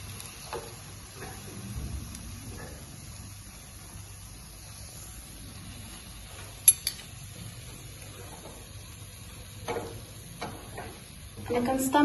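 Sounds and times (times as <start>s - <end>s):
oil sizzling in frying pan: 0.0s - 12.0s.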